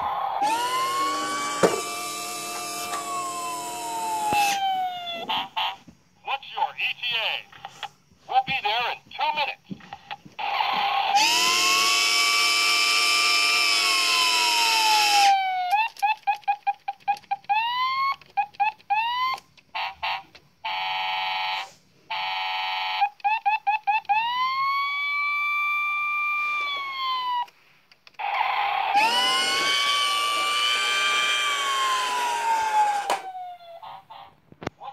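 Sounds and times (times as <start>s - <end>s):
toy siren wails: 0.0s - 5.8s, 10.4s - 27.5s, 28.2s - 34.3s.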